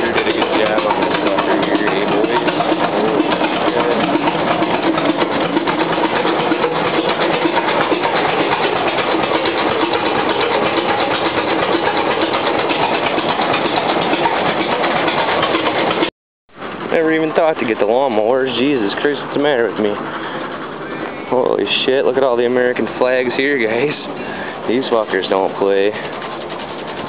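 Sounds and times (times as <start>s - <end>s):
tractor engine clattering: 0.0s - 27.0s.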